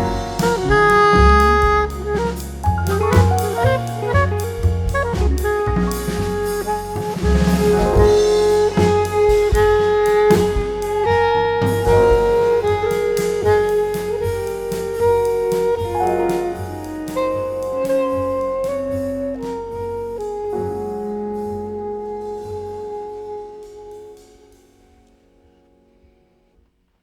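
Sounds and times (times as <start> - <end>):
drum kit: 0.0 - 24.8
saxophone playing held notes: 0.0 - 24.9
bass: 0.0 - 25.9
piano: 0.0 - 27.0.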